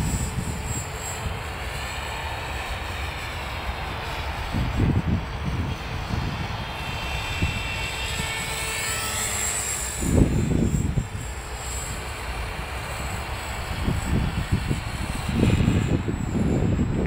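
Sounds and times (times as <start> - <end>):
wind buffeting microphone: 0.0 - 1.8, 2.5 - 17.0
rc helicopter motor whine: 0.0 - 17.0.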